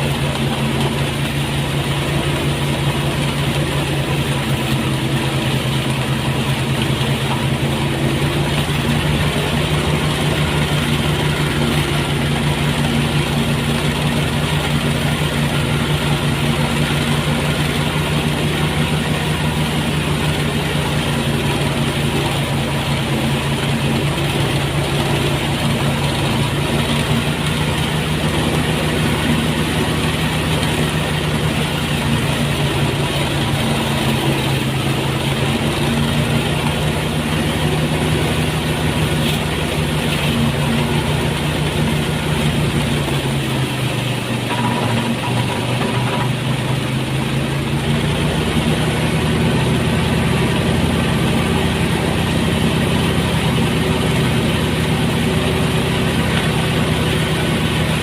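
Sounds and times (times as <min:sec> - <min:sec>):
threshing machine motor hum: 0:00.0 - 0:58.0.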